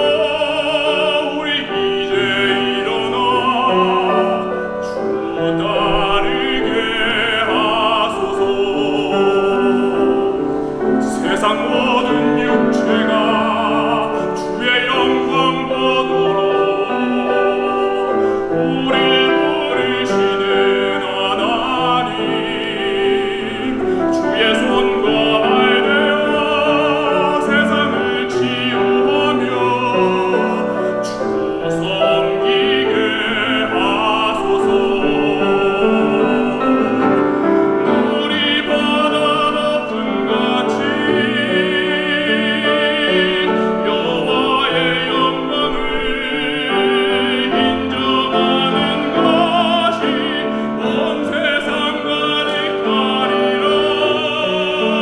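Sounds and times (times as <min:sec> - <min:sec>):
grand piano: 0:00.0 - 0:55.0
man singing a hymn: 0:00.0 - 0:55.0.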